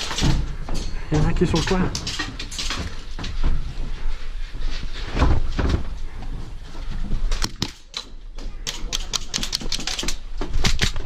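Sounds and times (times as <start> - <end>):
rustling movement: 0.0 - 11.0.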